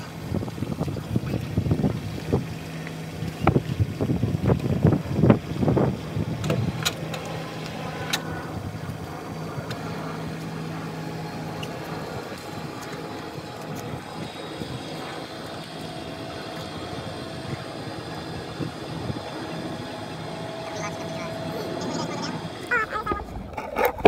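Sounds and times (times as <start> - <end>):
boat hoist motor humming: 0.0 - 24.0.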